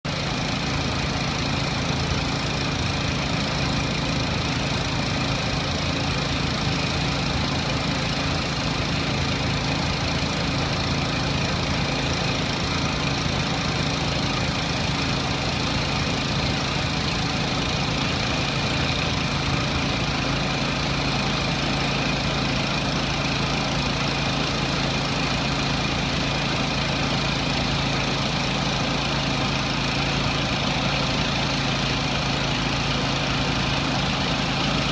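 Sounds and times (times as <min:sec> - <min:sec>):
pressure washer engine running: 0:00.0 - 0:34.9.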